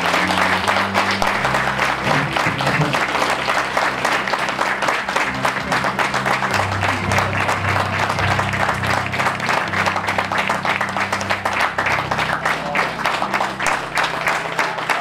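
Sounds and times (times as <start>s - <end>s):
audience applauding: 0.0s - 15.0s
music with held low notes: 0.0s - 15.0s.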